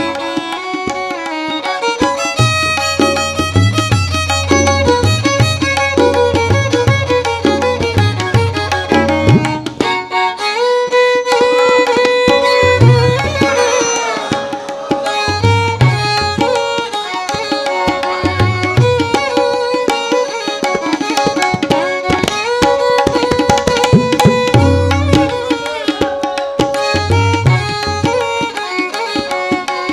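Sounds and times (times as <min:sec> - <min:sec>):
string melody: 0:00.0 - 0:29.9
tabla playing a rhythm: 0:00.0 - 0:29.9.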